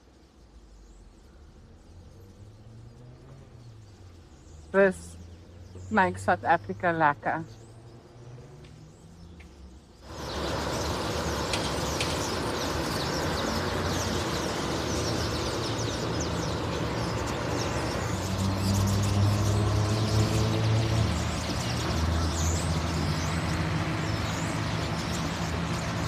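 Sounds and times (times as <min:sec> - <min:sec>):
background noise wash: 0:00.0 - 0:26.0
small birds chirping and chattering: 0:00.0 - 0:26.0.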